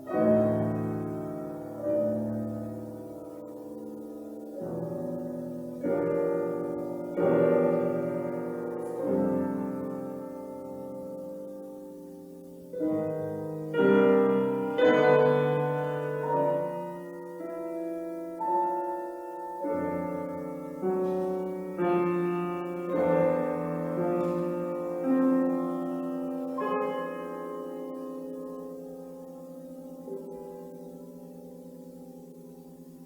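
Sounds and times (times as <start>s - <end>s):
piano playing slow chords: 0.0s - 33.0s.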